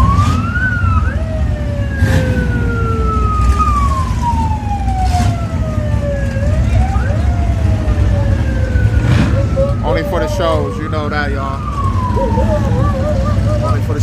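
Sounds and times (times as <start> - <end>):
car engines idling: 0.0 - 14.0
sirens wailing: 0.0 - 14.0.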